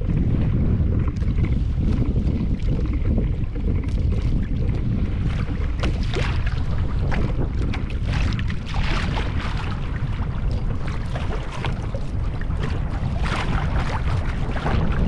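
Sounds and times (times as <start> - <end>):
water slapping kayak hull: 0.0 - 15.0
wind buffeting microphone: 0.0 - 15.0.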